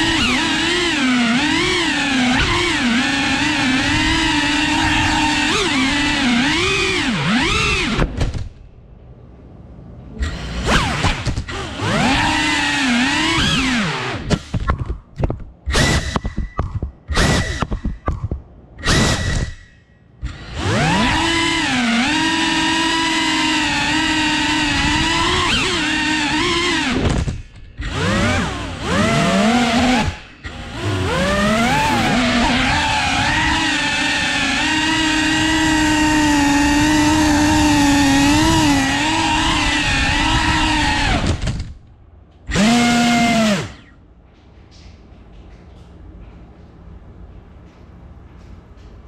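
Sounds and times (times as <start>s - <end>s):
drone motors whining: 0.0s - 8.5s, 10.1s - 41.8s, 42.5s - 44.0s.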